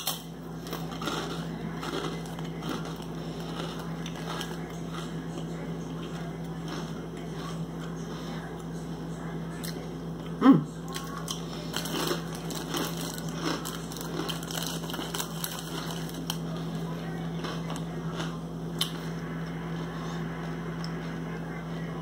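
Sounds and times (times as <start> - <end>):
rice cracker being chewed: 0.0 - 9.0, 9.6 - 21.9
steady low hum: 0.0 - 22.0.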